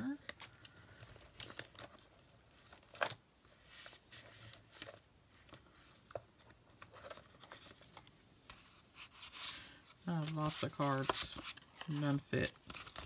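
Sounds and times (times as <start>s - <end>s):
paper cards rustling: 0.0s - 13.0s.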